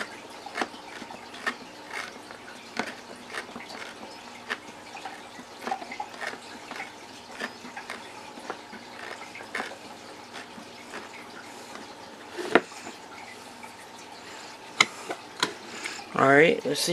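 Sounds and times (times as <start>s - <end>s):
hand reamer scraping plastic: 0.0s - 4.7s, 5.6s - 13.0s, 14.3s - 16.1s.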